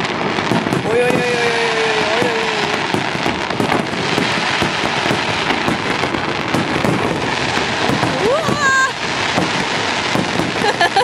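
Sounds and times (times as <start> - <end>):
firework crackling: 0.0 - 11.0
firework shells bursting: 0.0 - 11.0.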